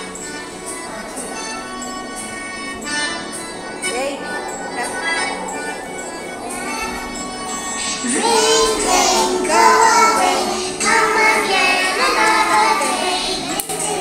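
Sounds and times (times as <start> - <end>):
young children singing together: 0.0 - 14.0.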